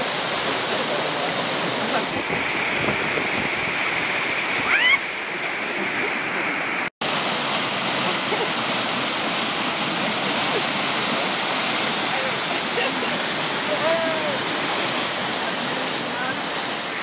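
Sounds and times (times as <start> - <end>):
whitewater rushing over rocks: 0.0 - 17.0.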